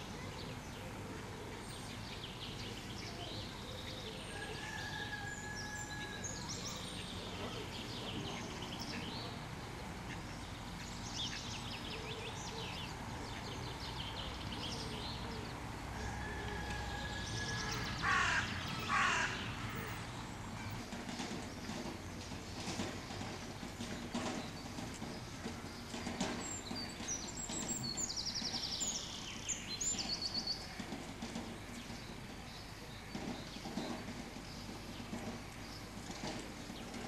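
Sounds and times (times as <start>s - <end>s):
loud bird calls: 0.0s - 37.0s
small birds chirping and trilling: 0.0s - 37.0s.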